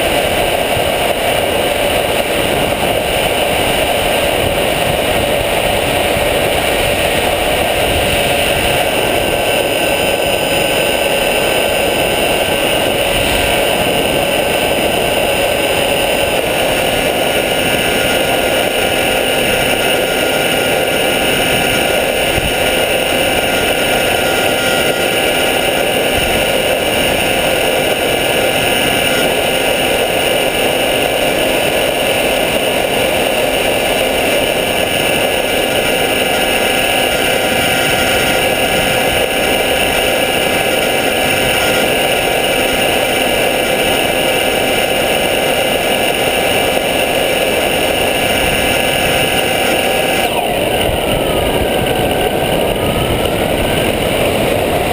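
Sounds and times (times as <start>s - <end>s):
dense rushing noise: 0.0s - 54.9s
gliding tones: 0.0s - 54.9s
model plane motor whine: 0.0s - 54.9s.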